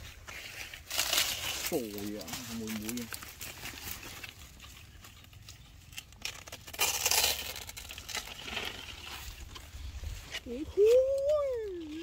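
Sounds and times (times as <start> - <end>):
stiff leaves rustling and scraping: 0.0 - 12.0.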